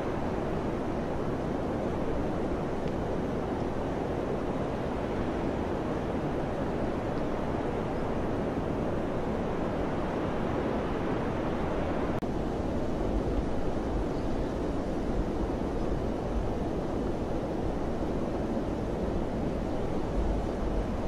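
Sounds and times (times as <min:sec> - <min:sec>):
wind blowing: 0:00.0 - 0:21.0.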